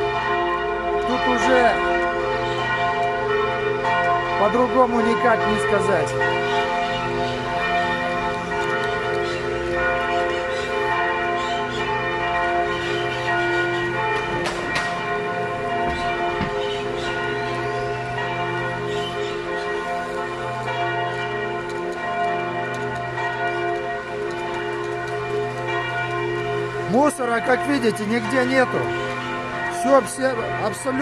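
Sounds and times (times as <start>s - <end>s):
church bells ringing: 0.0s - 31.0s.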